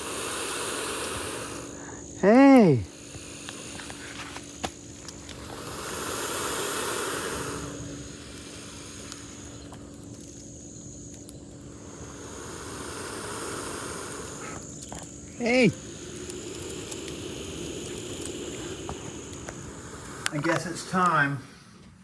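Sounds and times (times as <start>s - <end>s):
alligator hissing: 0.0s - 22.0s.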